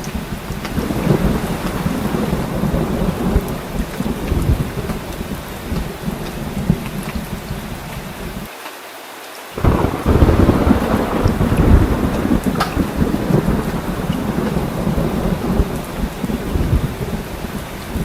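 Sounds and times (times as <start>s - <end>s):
loud peal of thunder: 0.0s - 8.4s, 9.6s - 18.0s
thunder rumbling: 0.0s - 8.5s, 9.6s - 18.0s
heavy rain: 0.0s - 18.0s.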